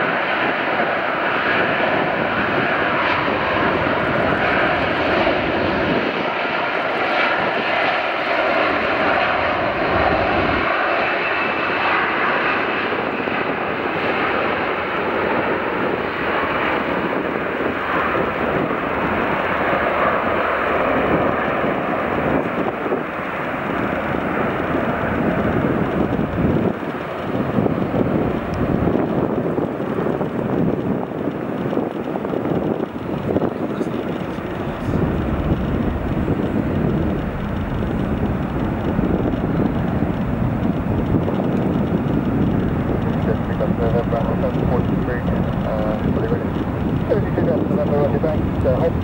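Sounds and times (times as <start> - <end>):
jet engines at takeoff thrust: 0.0 - 49.0.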